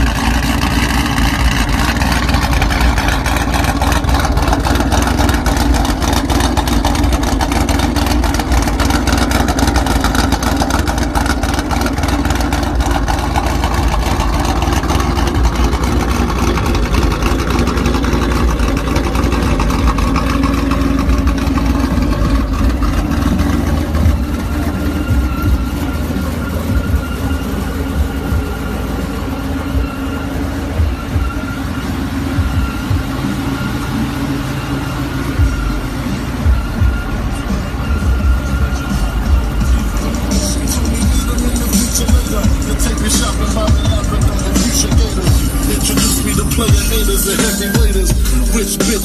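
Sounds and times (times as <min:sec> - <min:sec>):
car engine and exhaust running: 0:00.0 - 0:49.0.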